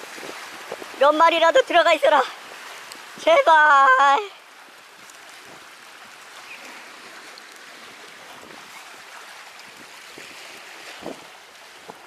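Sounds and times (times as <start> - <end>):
waves lapping among rocks: 0.0 - 12.0.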